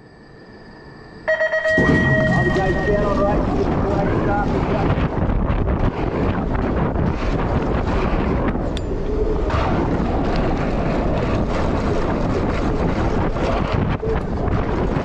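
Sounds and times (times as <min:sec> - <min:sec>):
wind buffeting microphone: 0:01.7 - 0:15.0.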